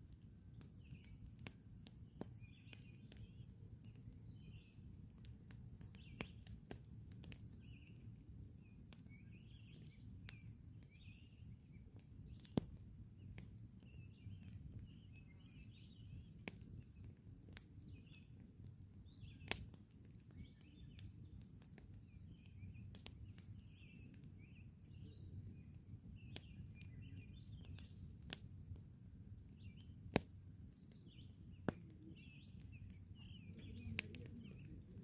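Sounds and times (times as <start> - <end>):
campfire crackling and popping: 0.0 - 35.0
small birds chirping: 0.0 - 35.0.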